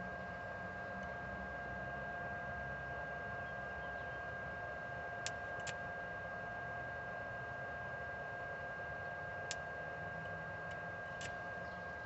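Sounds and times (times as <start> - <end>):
high electrical whine: 0.0 - 12.0
low electrical hum: 0.0 - 12.0.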